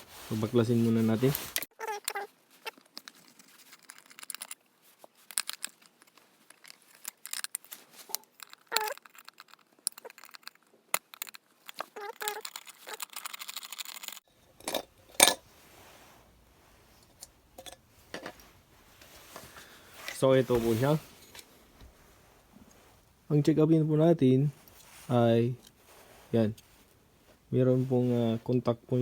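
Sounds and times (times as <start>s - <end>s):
small parts clicking and scraping: 0.0s - 15.5s, 16.8s - 21.5s, 24.6s - 28.6s.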